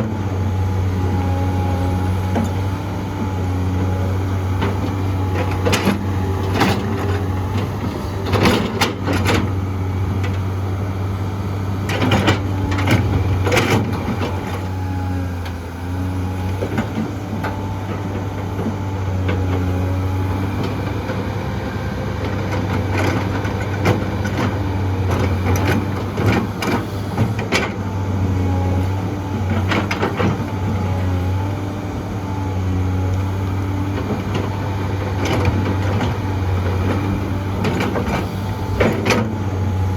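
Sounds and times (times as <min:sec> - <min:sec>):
excavator engine drone: 0:00.0 - 0:39.9.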